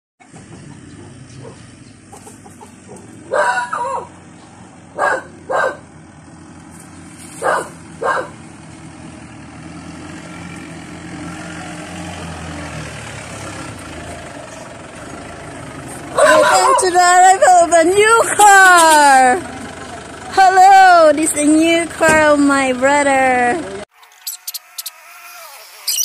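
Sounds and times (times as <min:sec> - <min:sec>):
car engine running: 0:00.2 - 0:24.9.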